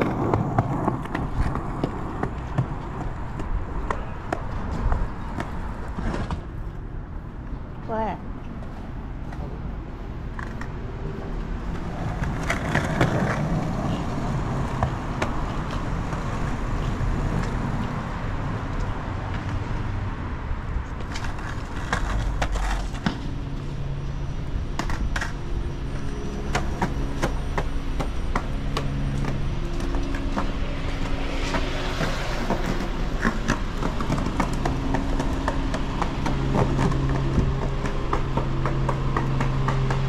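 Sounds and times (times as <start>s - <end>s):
low vehicle hum: 0.0s - 40.0s
street noise: 0.0s - 40.0s.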